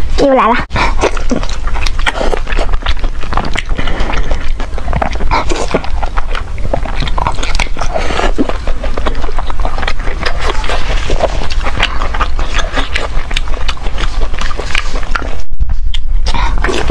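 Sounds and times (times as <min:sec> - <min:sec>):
biting and chewing sausage: 0:00.0 - 0:16.9
wet mouth clicks and smacks: 0:00.8 - 0:16.9.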